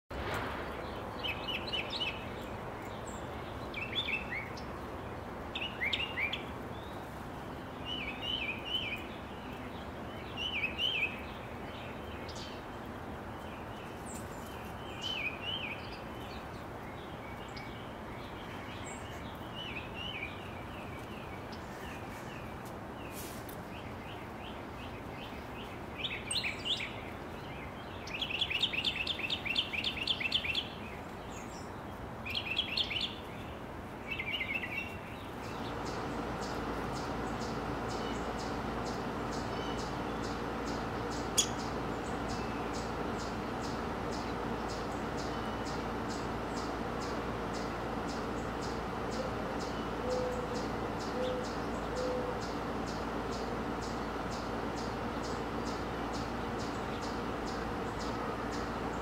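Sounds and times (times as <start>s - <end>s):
songbirds chirping: 0.1s - 59.0s
steady background noise: 0.1s - 59.0s.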